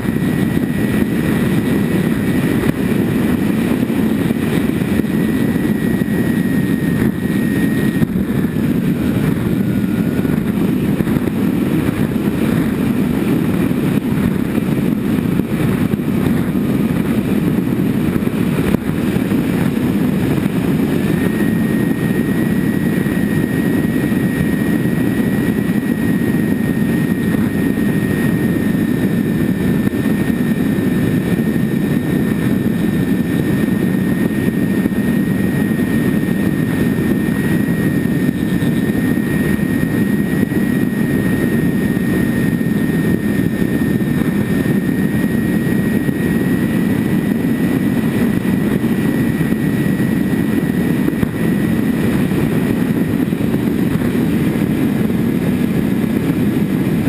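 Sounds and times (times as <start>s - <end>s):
electric motors and propellers whining: 0.0s - 57.0s
wind rushing over camera: 0.0s - 57.0s.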